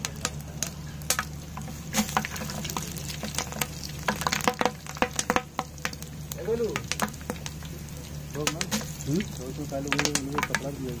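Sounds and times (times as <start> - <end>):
curry sizzling in oil: 0.0 - 11.0
sharp pops and crackles: 0.0 - 11.0
steady low hum: 0.0 - 11.0.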